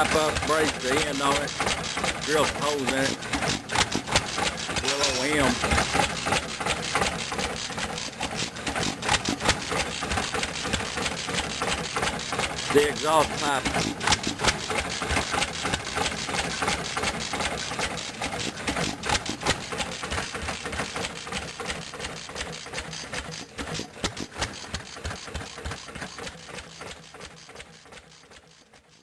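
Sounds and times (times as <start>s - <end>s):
hit-and-miss engine exhaust popping: 0.0s - 29.0s
mechanical clatter: 0.0s - 29.0s.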